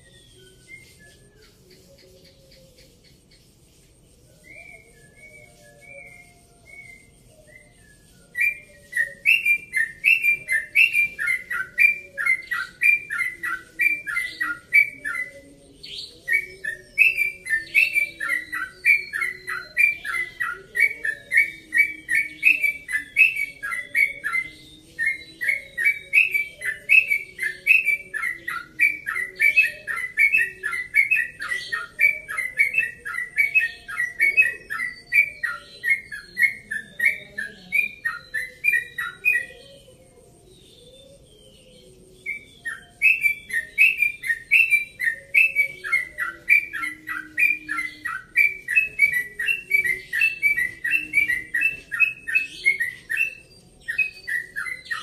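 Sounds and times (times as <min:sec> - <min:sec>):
bird singing whistled notes: 0:00.0 - 0:55.0.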